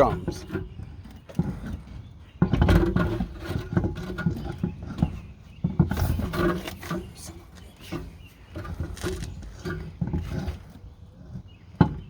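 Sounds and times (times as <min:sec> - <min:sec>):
car wheel clunking and scraping: 0:00.0 - 0:12.0.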